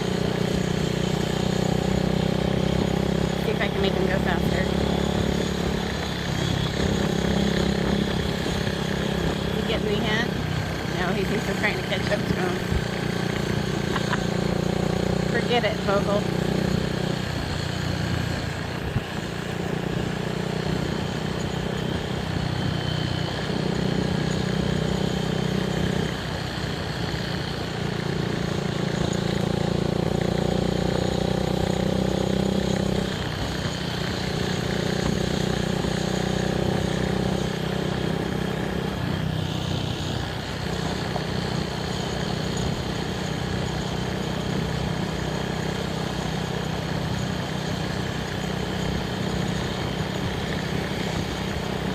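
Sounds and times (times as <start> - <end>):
small motorcycle engine running: 0.0 - 51.9.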